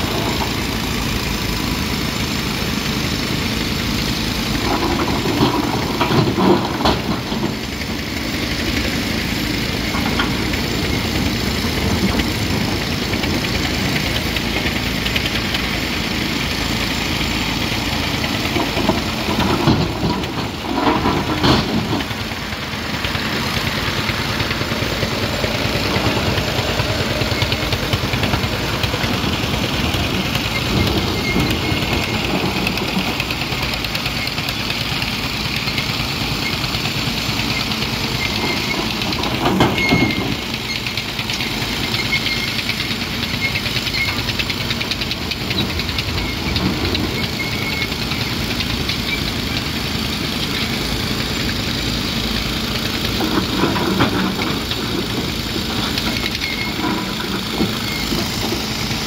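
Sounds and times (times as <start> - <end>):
excavator diesel engine running: 0.0 - 59.0
loud excavator clatter: 0.0 - 59.0.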